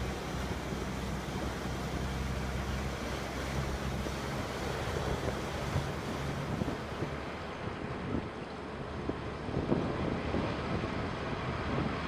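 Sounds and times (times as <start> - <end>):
rushing water: 0.0 - 12.0
water splashing at wheels: 0.0 - 12.0
wind buffeting microphone: 0.0 - 12.0.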